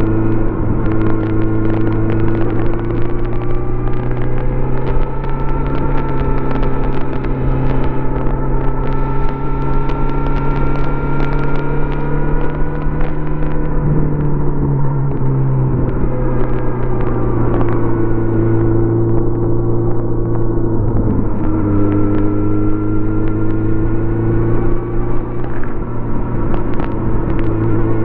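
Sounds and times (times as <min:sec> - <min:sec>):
exhaust crackles: 0:00.0 - 0:28.0
motorcycle engine revving: 0:00.0 - 0:28.0.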